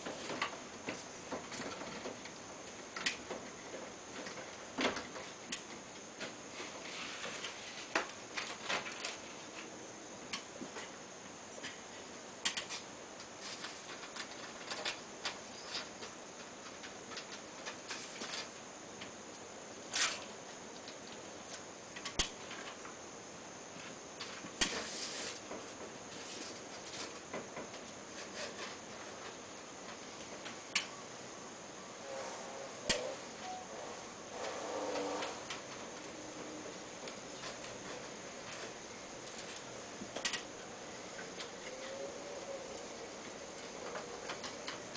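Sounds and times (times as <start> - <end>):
steady hiss: 0.0 - 44.9.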